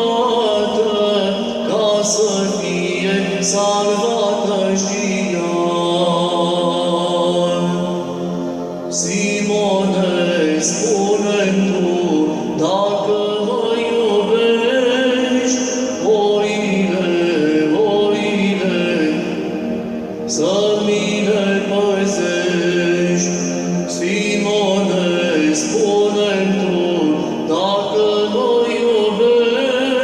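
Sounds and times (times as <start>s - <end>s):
hymn singing: 0.0s - 30.0s.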